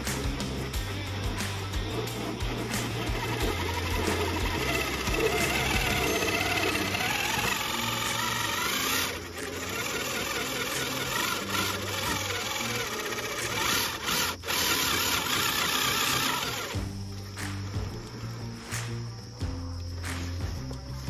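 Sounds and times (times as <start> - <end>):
electric motor and gears whining: 0.0 - 21.0.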